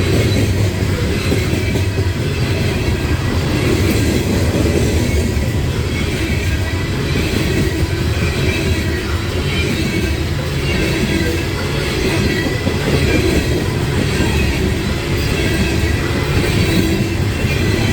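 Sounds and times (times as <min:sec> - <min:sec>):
steel wheels rumbling on rails: 0:00.0 - 0:17.9.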